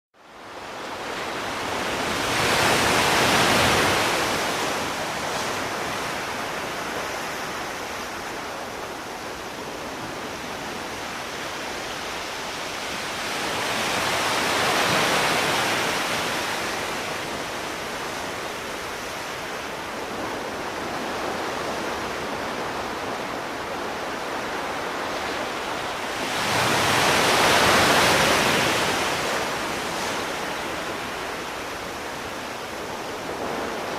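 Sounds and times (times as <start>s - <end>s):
sea waves washing on shore: 0.2s - 33.9s.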